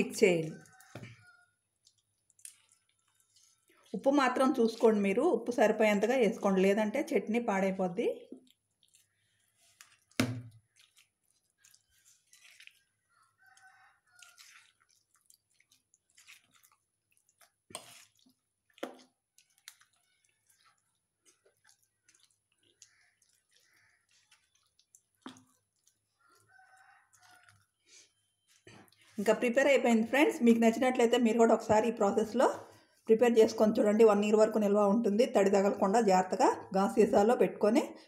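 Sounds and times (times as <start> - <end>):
spoon stirring wet pickle: 0.0 - 34.2.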